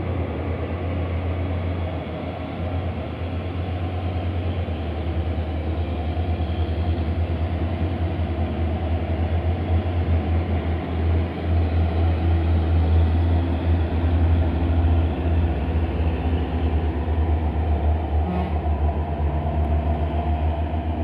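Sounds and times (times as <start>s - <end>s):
truck diesel engines rumbling: 0.0s - 21.0s.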